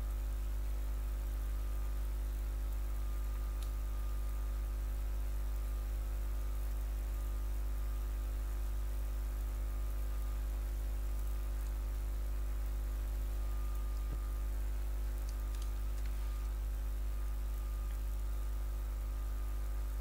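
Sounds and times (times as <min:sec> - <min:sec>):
faint hiss: 0:00.0 - 0:20.0
low electrical hum: 0:00.0 - 0:20.0.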